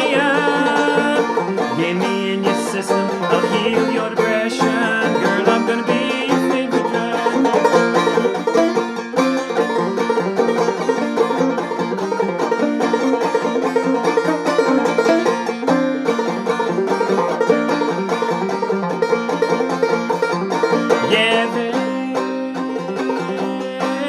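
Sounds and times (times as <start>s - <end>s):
banjo plucking: 0.0s - 24.0s.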